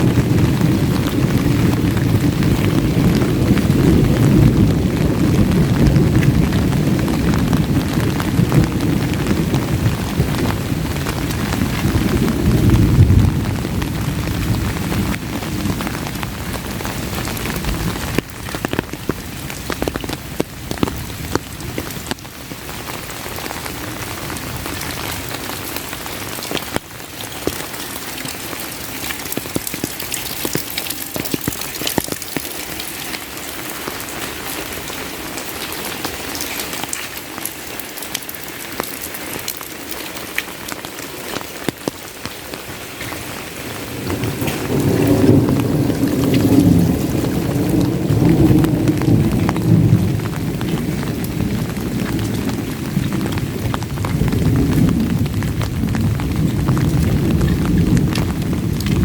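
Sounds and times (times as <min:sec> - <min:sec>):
thunder rumbling: 0:00.0 - 0:35.2, 0:43.6 - 0:59.0
heavy rain falling: 0:00.0 - 0:59.0.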